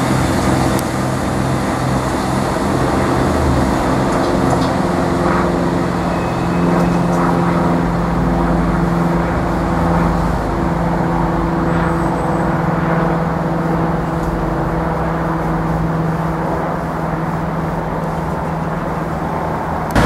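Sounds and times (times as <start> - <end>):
diesel train engine drone: 0.0 - 20.0
wheels rumbling on rail: 0.0 - 20.0.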